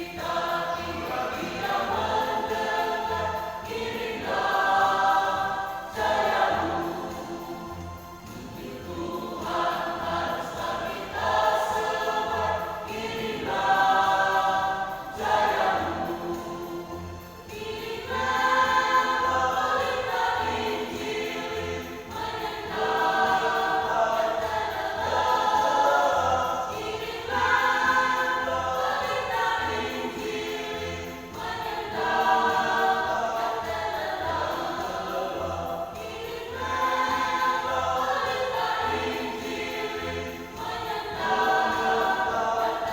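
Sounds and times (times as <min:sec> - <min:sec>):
voices singing: 0:00.0 - 0:42.9.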